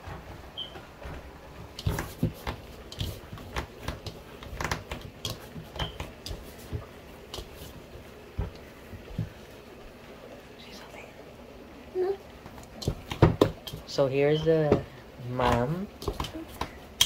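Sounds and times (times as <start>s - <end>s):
dough slapping and thumping: 0.0s - 9.6s, 12.4s - 17.0s.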